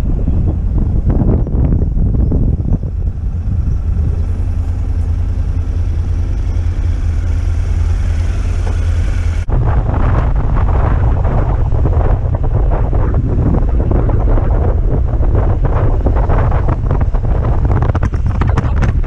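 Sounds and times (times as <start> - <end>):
motorcycle engine droning: 0.0 - 19.0
wind buffeting microphone: 0.0 - 19.0.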